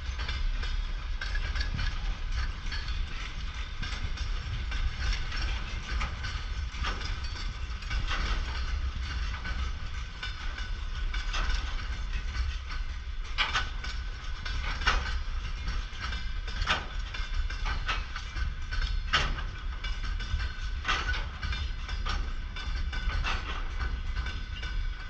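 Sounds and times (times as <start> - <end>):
wheels knocking over rail joints: 0.0 - 25.0.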